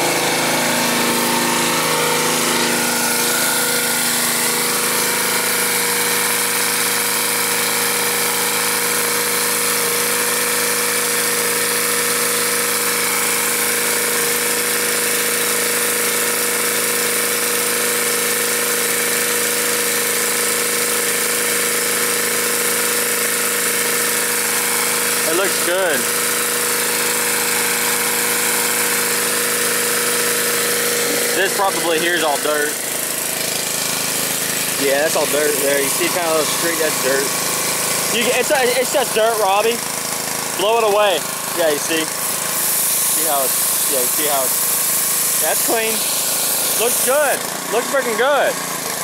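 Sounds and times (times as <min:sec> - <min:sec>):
pressure washer running: 0:00.0 - 0:49.0.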